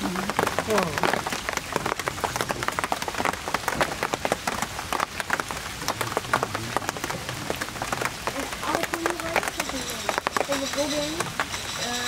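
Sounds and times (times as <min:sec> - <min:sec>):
raindrops tapping: 0:00.0 - 0:12.0.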